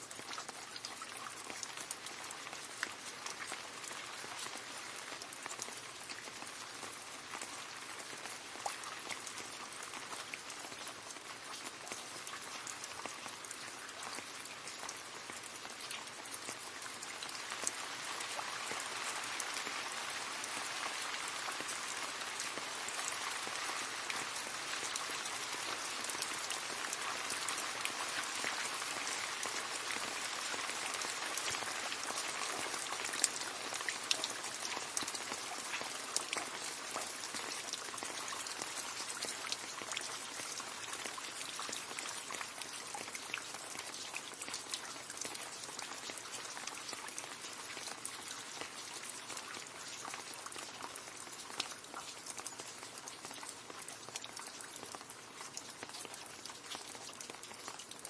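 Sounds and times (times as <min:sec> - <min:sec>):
rain splashing into puddle: 0:00.0 - 0:58.0.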